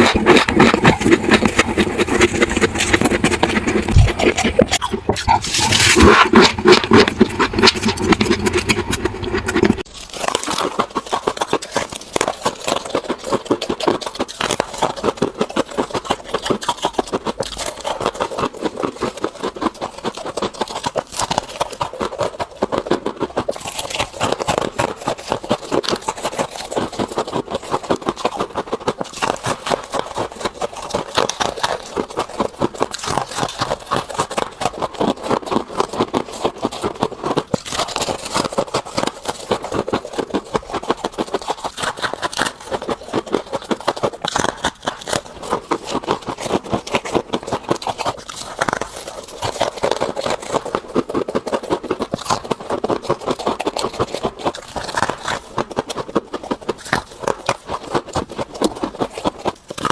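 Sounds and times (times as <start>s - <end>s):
chewing crunchy ice: 0.0s - 59.9s.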